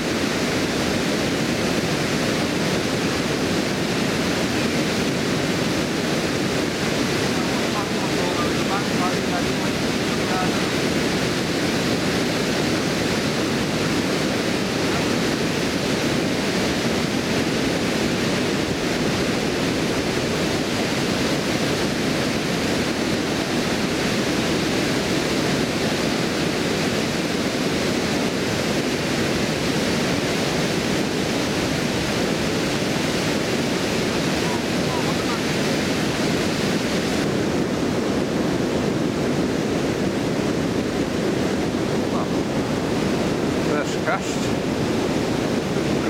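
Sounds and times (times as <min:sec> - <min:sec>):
water rushing over a weir: 0:00.0 - 0:46.0.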